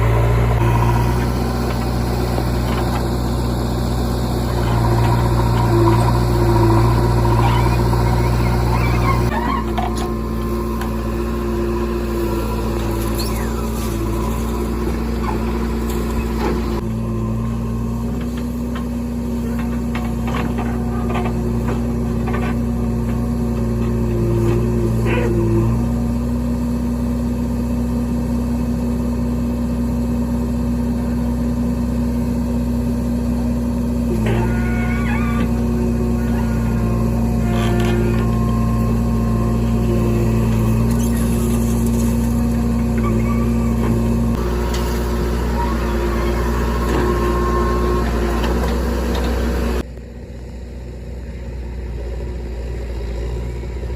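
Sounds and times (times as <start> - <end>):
backhoe diesel engine running: 0.0 - 53.9.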